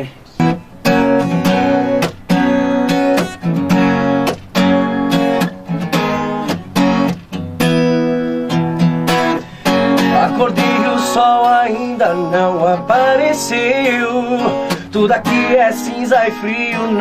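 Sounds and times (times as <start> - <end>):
acoustic guitar strumming chords: 0.4 - 17.0.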